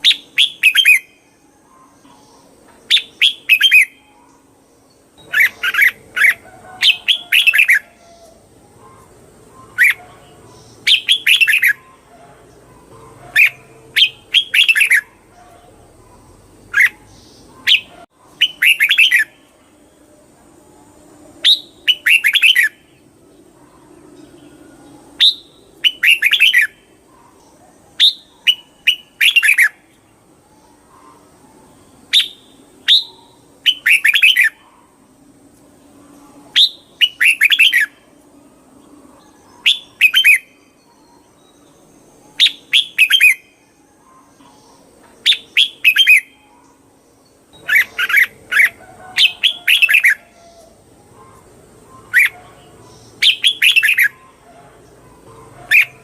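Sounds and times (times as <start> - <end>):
bird singing chirpy phrases: 0.0 - 35.2, 35.8 - 56.0.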